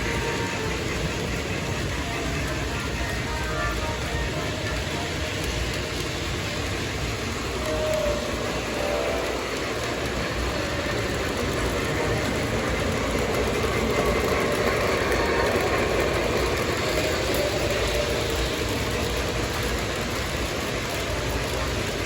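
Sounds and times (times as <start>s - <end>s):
model train motors whirring: 0.0s - 22.0s
model train wheels rumbling on track: 0.0s - 22.0s.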